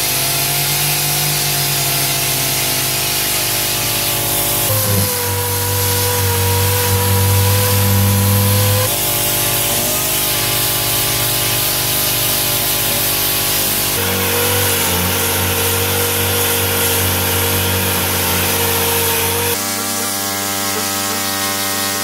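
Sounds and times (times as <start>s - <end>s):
orbital sander on fibreglass: 0.0s - 22.0s.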